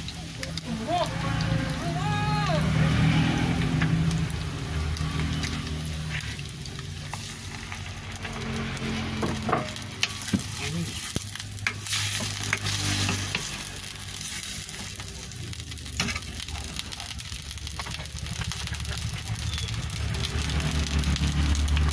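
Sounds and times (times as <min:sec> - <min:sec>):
food sizzling in oil: 0:00.0 - 0:21.9.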